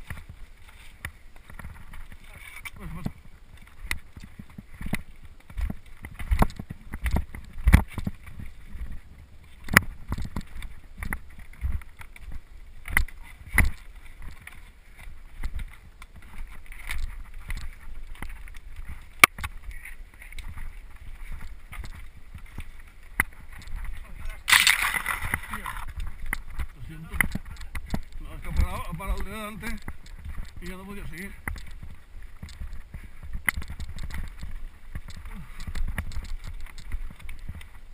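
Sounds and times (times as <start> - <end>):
mountain bike rumbling on trail: 0.0 - 37.9.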